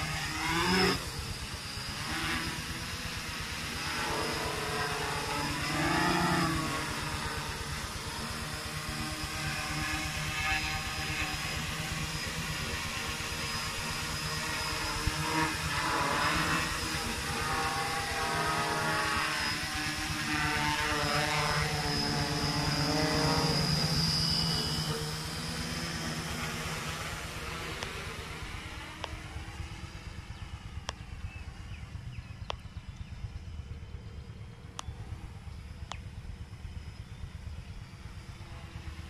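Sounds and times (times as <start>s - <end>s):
quadcopter motors buzzing: 0.0s - 39.0s.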